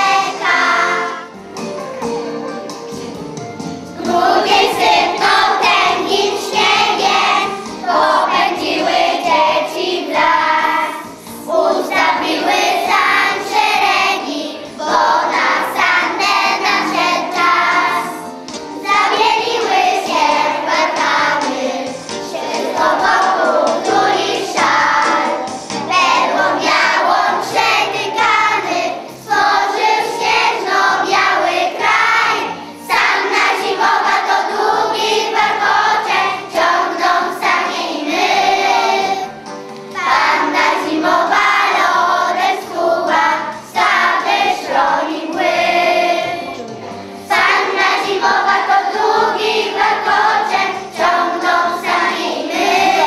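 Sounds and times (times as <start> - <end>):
children's choir singing: 0.0 - 1.8, 3.8 - 53.0.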